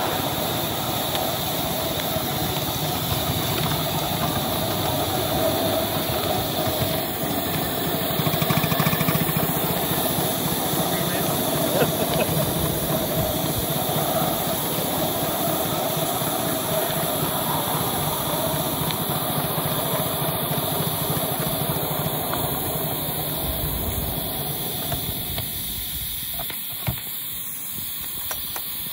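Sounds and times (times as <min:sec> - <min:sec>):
steam hiss: 0:00.0 - 0:28.9
steam locomotive running: 0:00.0 - 0:28.9.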